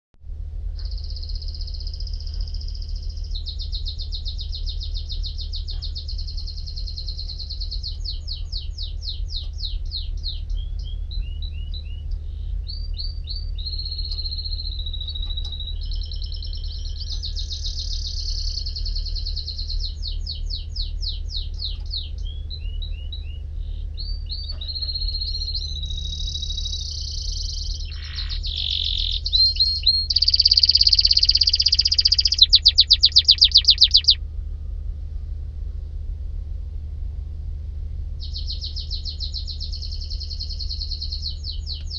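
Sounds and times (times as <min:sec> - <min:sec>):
steady low hum: 0:00.2 - 0:41.9
canary singing trills: 0:00.8 - 0:34.2, 0:38.2 - 0:41.9.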